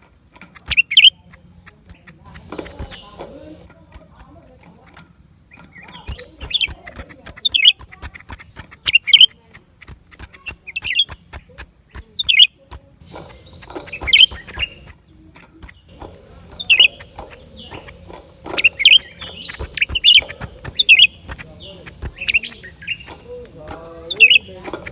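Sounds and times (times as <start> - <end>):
sharp bird clicks: 0.5 - 4.2, 5.5 - 24.9
bird singing warbled phrases: 0.6 - 3.7, 5.5 - 9.4, 10.4 - 11.3, 12.2 - 24.9.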